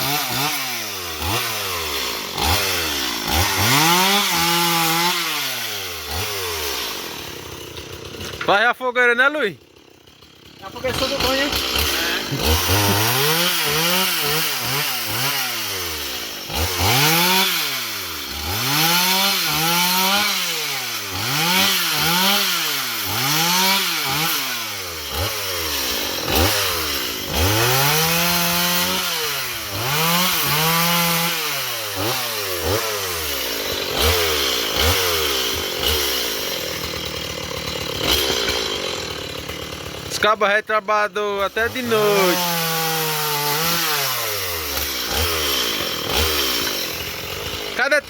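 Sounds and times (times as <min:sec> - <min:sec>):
chainsaw engine revving: 0:00.0 - 0:48.0.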